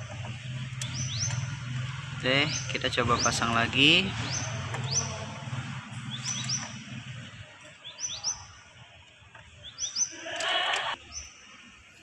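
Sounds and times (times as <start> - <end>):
bird chirping: 0.2 - 8.8, 9.4 - 11.4.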